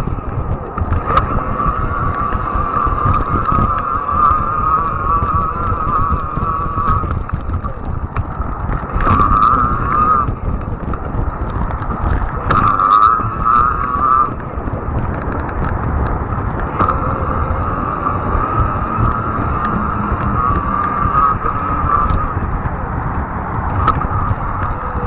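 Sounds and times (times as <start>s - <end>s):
e-bike motor whine: 0.0s - 25.0s
wind buffeting microphone: 0.0s - 25.0s.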